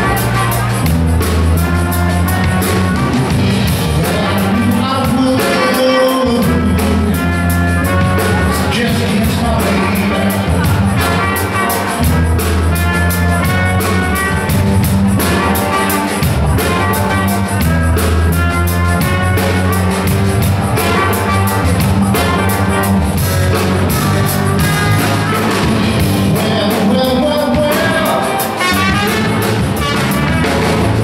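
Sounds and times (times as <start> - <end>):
electric bass line: 0.0 - 31.0
funk band playing: 0.0 - 31.0
trumpet playing: 0.0 - 31.0.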